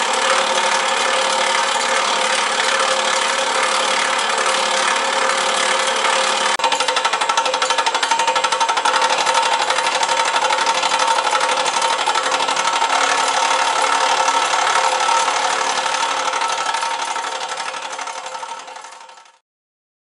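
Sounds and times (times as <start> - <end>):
cable stripper rattling: 0.0 - 19.4.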